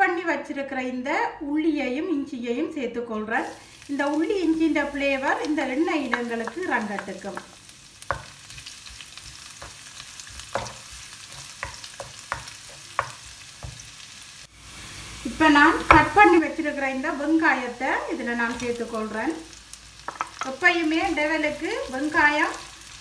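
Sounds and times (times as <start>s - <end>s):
garlic sizzling in oil: 3.4s - 23.0s.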